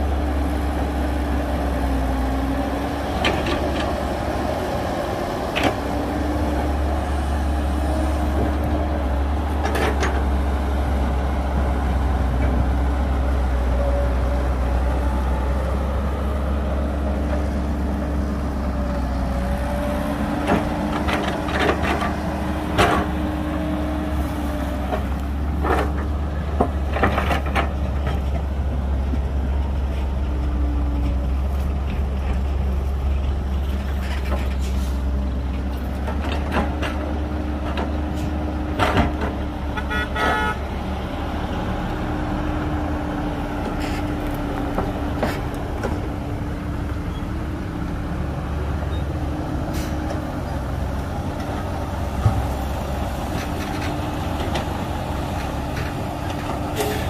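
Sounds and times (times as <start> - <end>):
heavy diesel machinery rumbling: 0.0 - 57.0.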